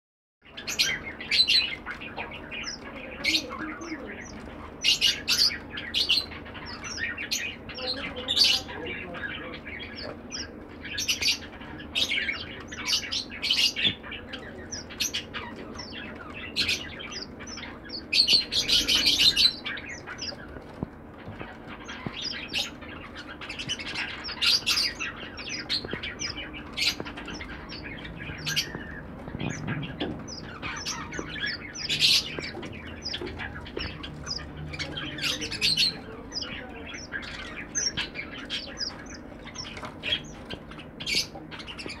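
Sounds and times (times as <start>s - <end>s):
finches chirping: 0.4s - 42.0s.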